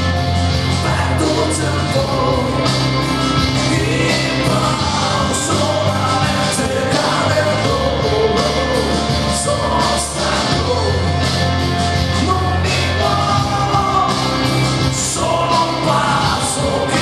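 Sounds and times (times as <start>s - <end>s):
live band music: 0.0s - 17.0s
man singing: 0.7s - 17.0s.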